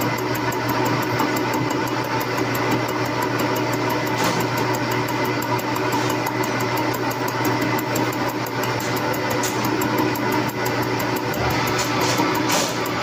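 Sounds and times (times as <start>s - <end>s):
metal lathe motor hum: 0.0s - 13.0s
tool cutting spinning metal: 0.0s - 13.0s.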